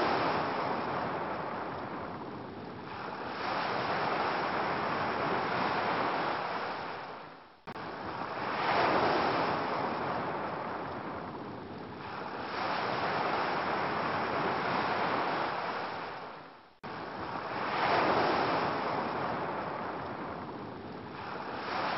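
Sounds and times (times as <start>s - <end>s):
ocean waves washing onto beach: 0.0s - 21.9s.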